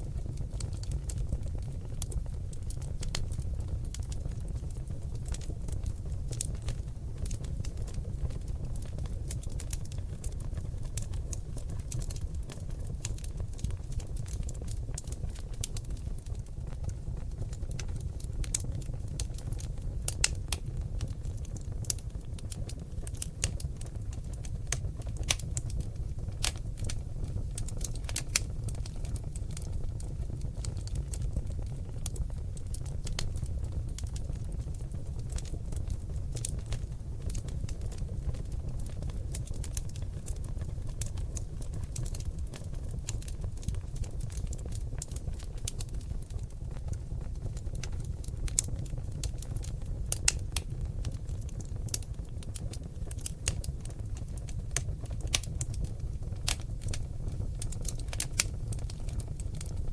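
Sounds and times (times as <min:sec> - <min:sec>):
low noise of flames: 0:00.0 - 0:59.9
wood fire crackling and popping: 0:00.0 - 0:59.9.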